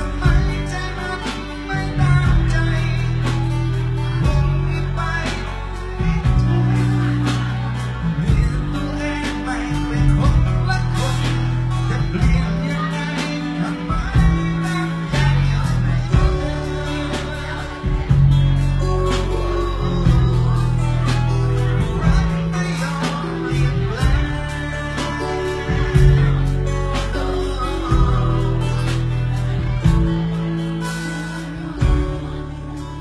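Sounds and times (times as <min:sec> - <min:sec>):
live band music: 0:00.0 - 0:33.0
man singing into a microphone: 0:00.0 - 0:33.0.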